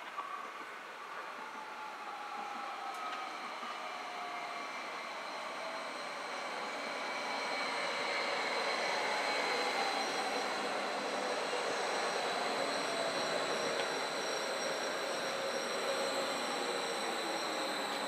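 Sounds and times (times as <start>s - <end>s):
electric train running rumble: 0.0s - 18.0s
faint whining tones: 0.0s - 18.0s.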